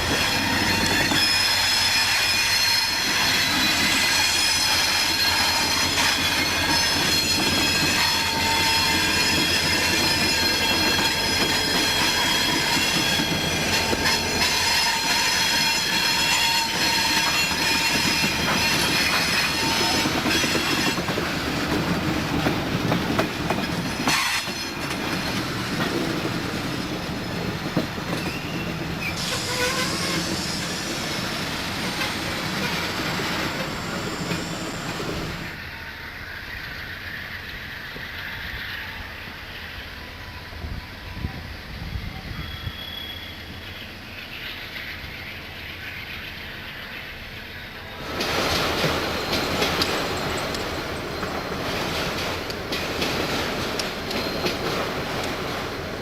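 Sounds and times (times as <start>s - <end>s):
train rumbling: 0.0s - 56.0s
train wheels squealing on rails: 0.0s - 56.0s.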